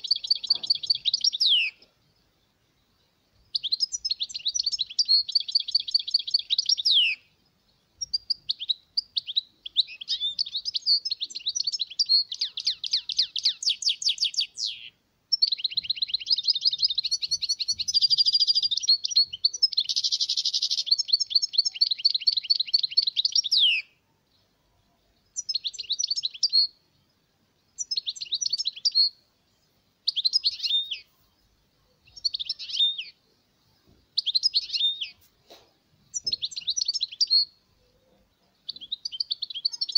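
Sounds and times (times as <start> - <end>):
finch singing: 0.0 - 39.9.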